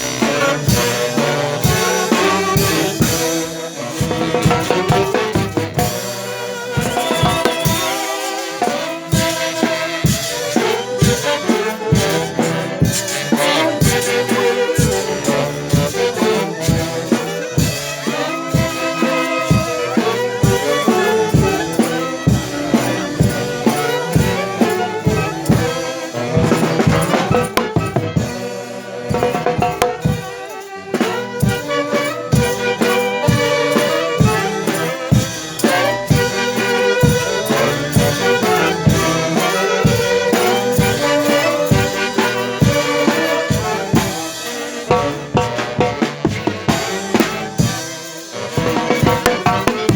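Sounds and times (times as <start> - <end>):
brass band music with drums: 0.0 - 49.9.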